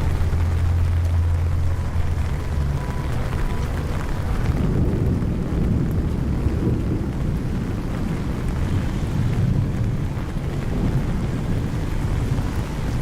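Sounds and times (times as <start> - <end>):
distant thunder rumble: 0.0 - 13.0
steady rain: 0.0 - 13.0.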